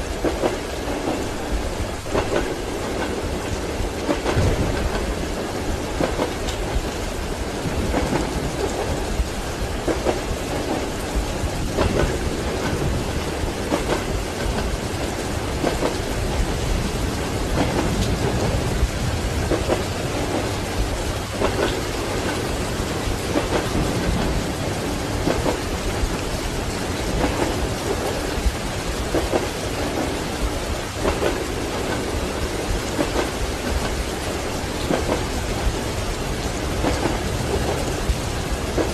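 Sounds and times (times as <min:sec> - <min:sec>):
heavy rain: 0:00.0 - 0:38.9
rumbling thunder: 0:00.0 - 0:38.9
train wheels knocking on rails: 0:00.0 - 0:38.9.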